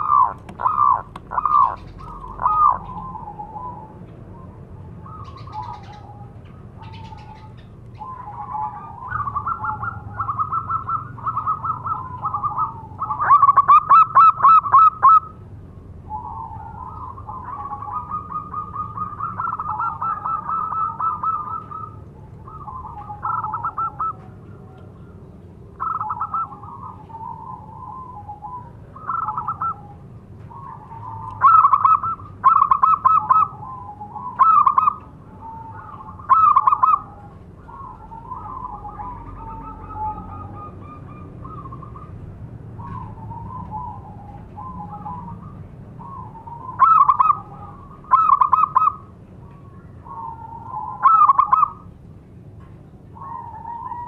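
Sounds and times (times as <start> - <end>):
dove cooing: 0.0 - 51.9, 53.1 - 54.0.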